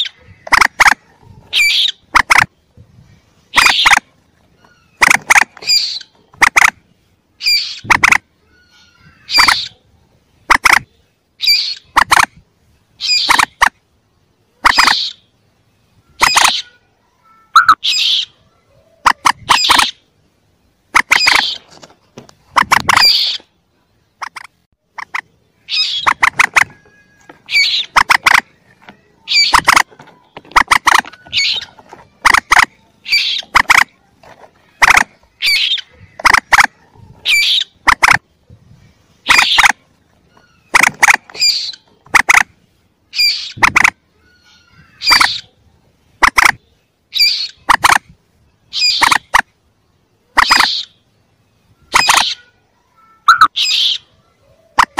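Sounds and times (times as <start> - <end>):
bird chick calls: 0.0 - 2.6, 3.5 - 6.8, 7.4 - 12.4, 13.0 - 13.8, 14.6 - 15.4, 16.0 - 20.1, 20.9 - 21.7, 22.3 - 23.6, 24.2 - 38.4, 39.2 - 42.5, 43.1 - 45.6, 46.2 - 48.1, 48.7 - 49.5, 50.2 - 51.1, 51.8 - 54.9.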